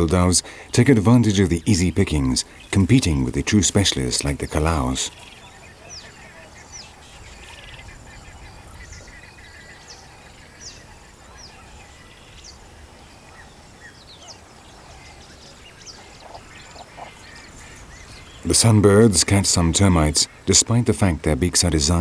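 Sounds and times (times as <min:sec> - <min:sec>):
birds chirping: 0:00.0 - 0:22.0
low outdoor hum: 0:00.0 - 0:22.0.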